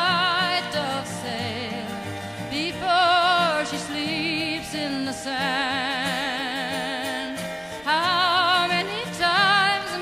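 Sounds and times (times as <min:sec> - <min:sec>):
song with sung notes: 0:00.0 - 0:10.0.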